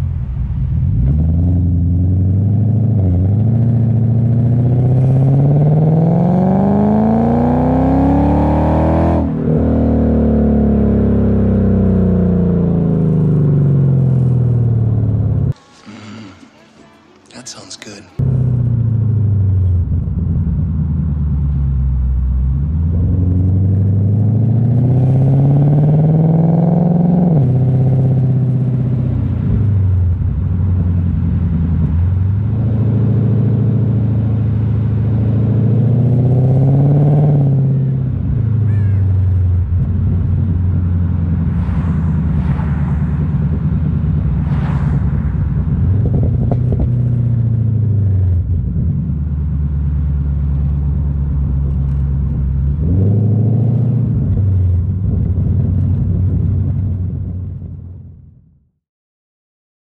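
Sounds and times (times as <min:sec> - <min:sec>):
car engine accelerating: 0:00.0 - 0:58.2.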